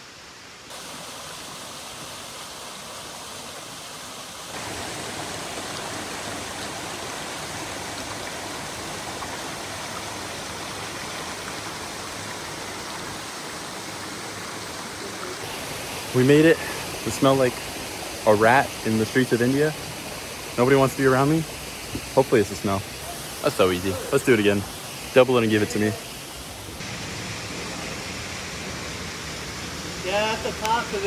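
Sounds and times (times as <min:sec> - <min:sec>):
waterfall rushing: 0:00.7 - 0:31.0.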